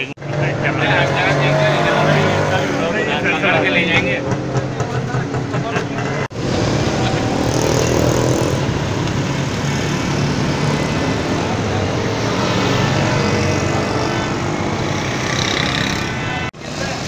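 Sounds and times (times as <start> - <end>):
passing cars: 0.0 - 17.0
passing motorcycles: 0.0 - 17.0.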